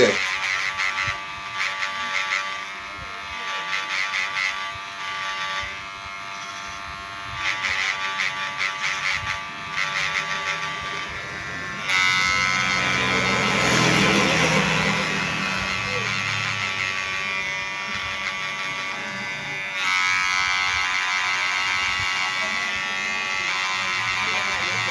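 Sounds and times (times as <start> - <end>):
hair clipper buzzing: 0.0 - 24.9.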